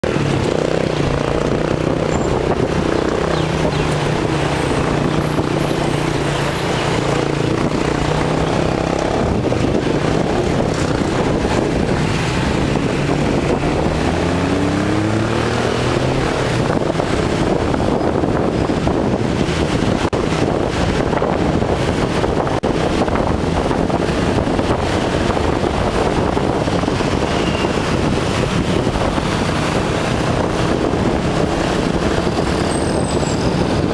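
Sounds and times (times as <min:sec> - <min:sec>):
motorcycle engine accelerating: 0:00.0 - 0:33.9
wind and road noise: 0:00.0 - 0:33.9.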